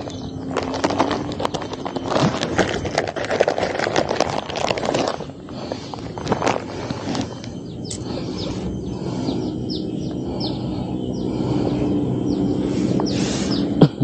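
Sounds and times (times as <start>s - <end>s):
bird chirping: 0.0s - 3.0s, 4.8s - 14.0s
steady low hum: 0.0s - 14.0s.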